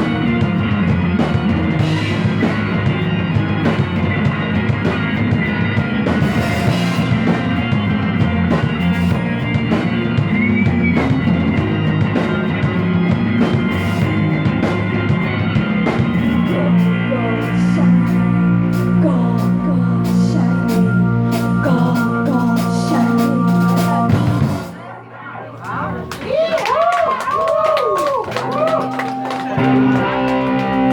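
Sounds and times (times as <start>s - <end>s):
long held guitar notes: 0.0s - 26.2s, 28.4s - 30.9s
drum kit keeping time: 0.0s - 30.9s
psychedelic rock band playing: 0.0s - 30.9s.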